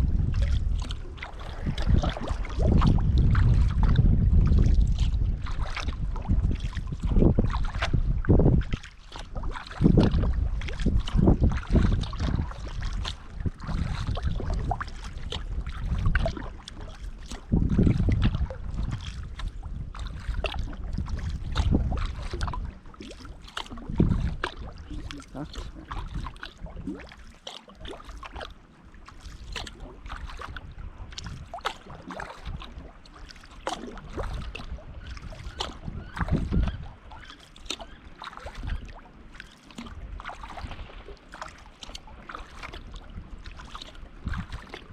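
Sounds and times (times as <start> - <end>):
paddle blades splashing: 0.0 - 44.9
water dripping off paddle: 8.6 - 44.9.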